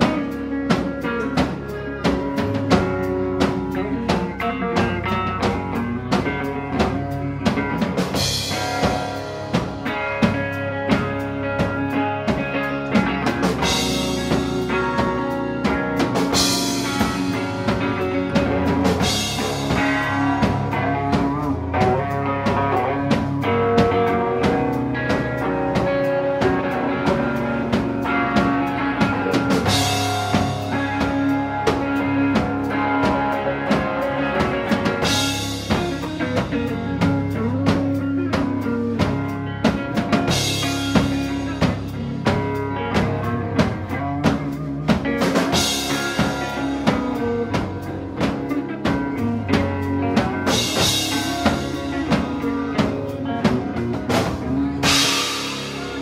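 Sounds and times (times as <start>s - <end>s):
drum kit beat: 0.0s - 56.0s
live rock band playing: 0.0s - 56.0s.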